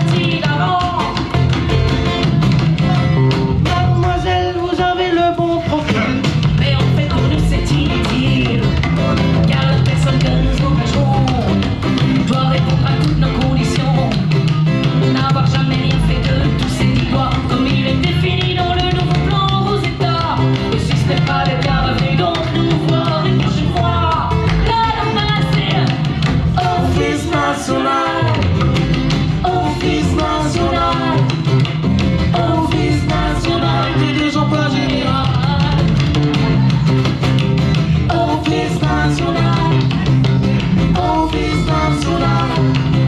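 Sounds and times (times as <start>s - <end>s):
person singing: 0.0s - 1.4s, 2.8s - 28.6s, 29.4s - 31.6s, 32.3s - 36.8s, 37.9s - 43.0s
live blues band playing: 0.0s - 43.0s.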